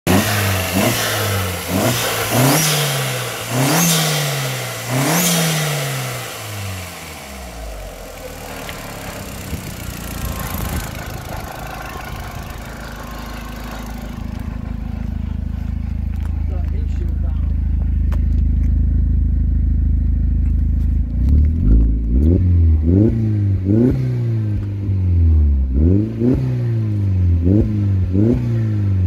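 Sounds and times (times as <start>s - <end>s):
car engine revving and idling: 0.0s - 29.0s.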